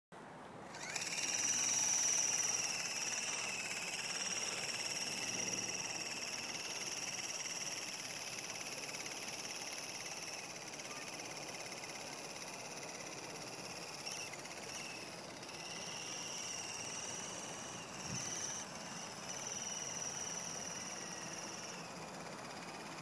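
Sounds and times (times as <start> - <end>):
model helicopter whine: 0.6 - 23.0.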